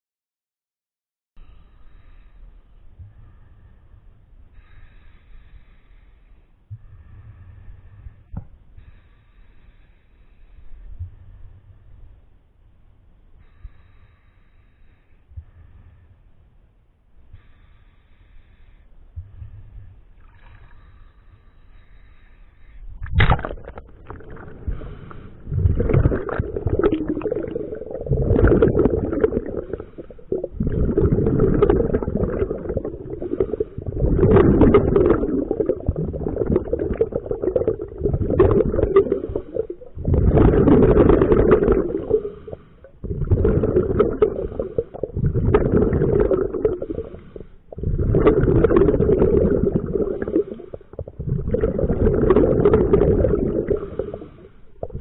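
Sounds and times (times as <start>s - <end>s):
diver breathing through regulator: 1.4s - 11.9s, 13.4s - 16.6s, 17.3s - 55.0s.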